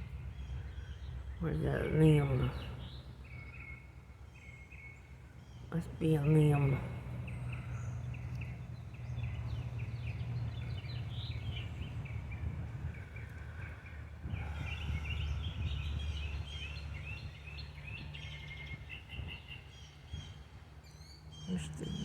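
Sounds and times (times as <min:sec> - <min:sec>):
road traffic rumble: 0:00.0 - 0:22.0
small birds chirping: 0:00.0 - 0:22.0.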